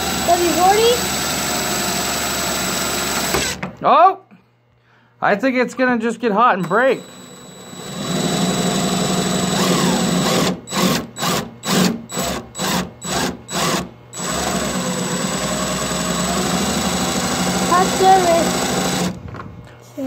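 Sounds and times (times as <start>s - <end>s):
impact driver motor running: 0.0s - 3.7s, 6.6s - 19.5s.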